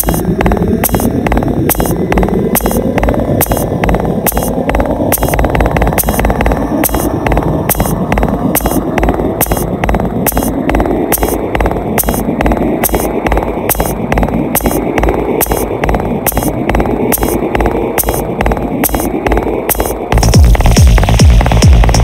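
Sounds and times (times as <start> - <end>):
electronic music with hi-hat beat: 0.0 - 22.0.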